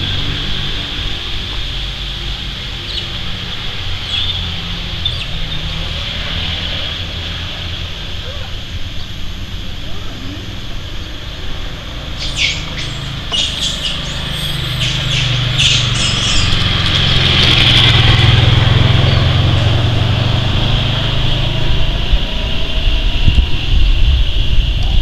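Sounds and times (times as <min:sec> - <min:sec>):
high-pitched hum: 0:00.0 - 0:25.0
low rumble: 0:00.0 - 0:25.0.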